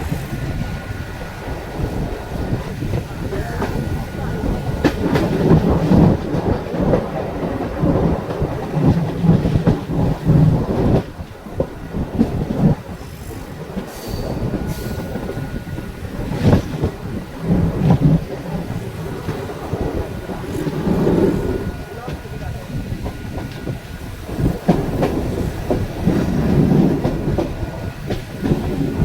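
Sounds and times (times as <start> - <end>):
train wheels rumbling over rails: 0.0 - 29.0.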